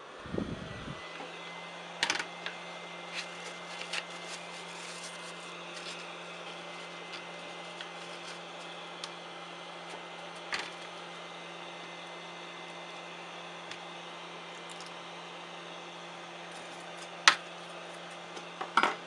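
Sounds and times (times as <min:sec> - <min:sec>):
steady hum and hiss: 0:00.0 - 0:19.0.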